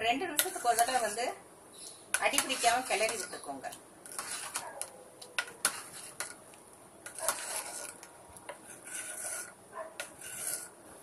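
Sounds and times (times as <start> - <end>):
spoon scraping pan bottom: 0.3 - 4.7, 5.4 - 6.4, 7.0 - 10.8.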